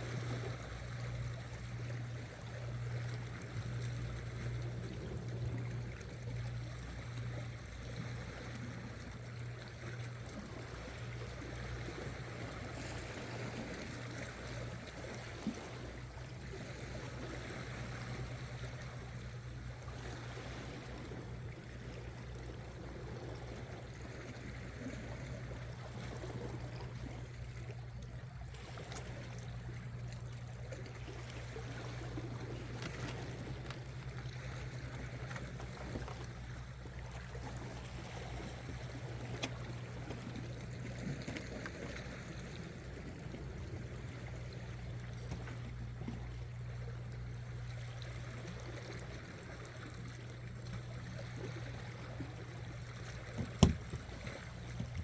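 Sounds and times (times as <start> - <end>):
seawater lapping against rocks: 0.0 - 55.0
steady low hum: 0.0 - 55.0.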